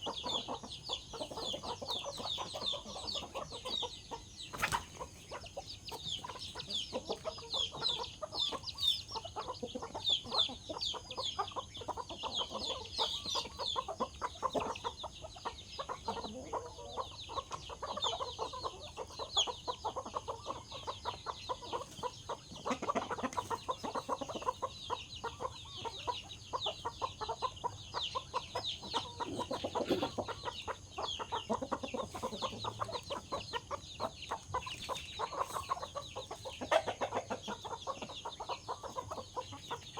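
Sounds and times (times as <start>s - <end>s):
chickens clucking: 0.0s - 39.9s
high short peeping calls: 0.0s - 39.9s.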